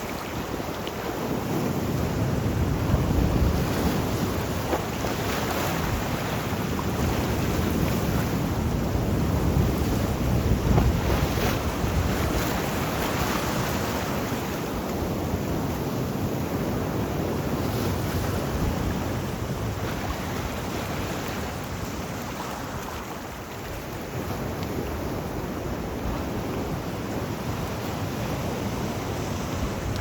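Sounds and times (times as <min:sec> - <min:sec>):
sea waves breaking: 0:00.0 - 0:30.0
wind rumbling on microphone: 0:00.0 - 0:30.0.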